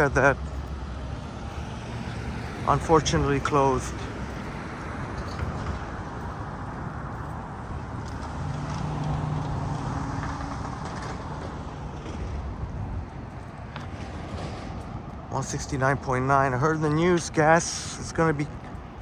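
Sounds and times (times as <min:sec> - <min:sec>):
steady road noise: 0:00.0 - 0:19.0
vehicle engine hum: 0:00.0 - 0:19.0.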